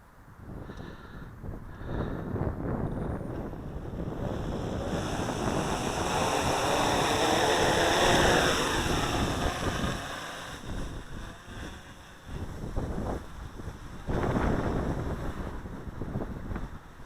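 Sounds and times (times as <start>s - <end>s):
wind buffeting microphone: 0.2s - 17.0s
drone propellers whirring: 1.7s - 17.0s.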